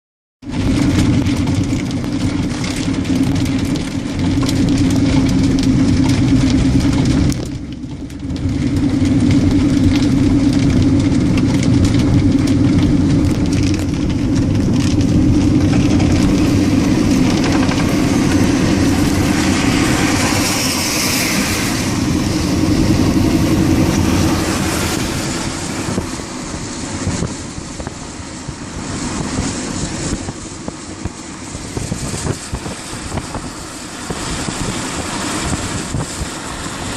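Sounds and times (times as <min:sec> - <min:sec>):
vehicle engine and road drone: 0:00.4 - 0:36.9.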